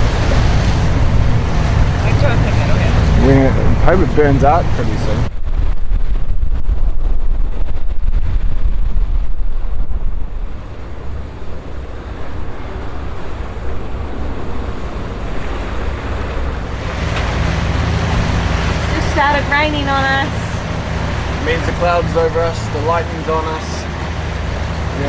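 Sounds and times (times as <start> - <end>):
sea waves washing: 0.0 - 25.0
wind buffeting microphone: 0.0 - 25.0.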